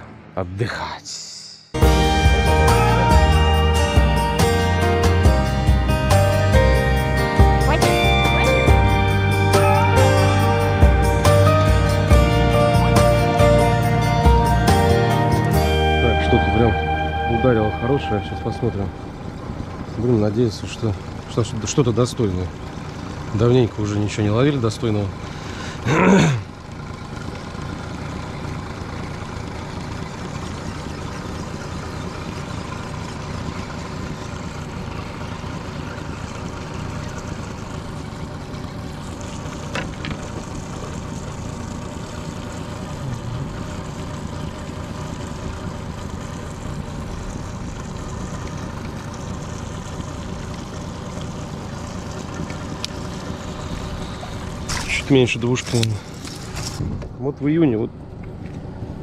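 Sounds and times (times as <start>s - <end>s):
outboard motor running: 1.8s - 59.0s.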